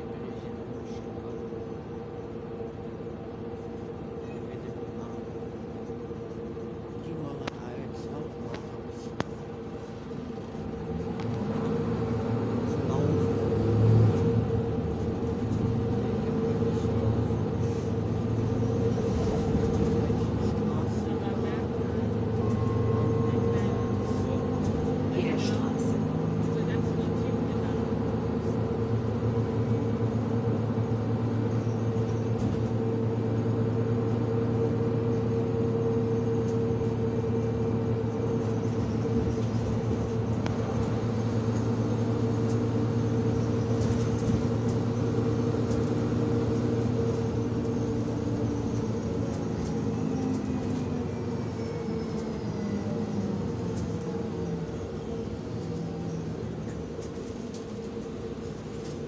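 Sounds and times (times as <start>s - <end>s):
vehicle running hum: 0.0s - 59.0s.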